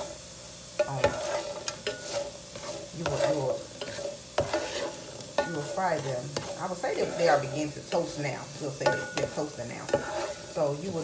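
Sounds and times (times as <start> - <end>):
potatoes sizzling: 0.0 - 11.0
spatula scraping potatoes in pan: 0.0 - 11.0.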